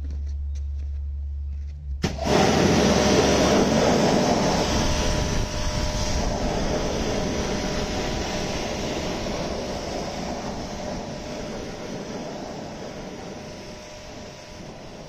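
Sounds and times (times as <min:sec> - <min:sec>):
low hum: 0:00.0 - 0:15.0
pressure washer water hissing: 0:02.0 - 0:15.0.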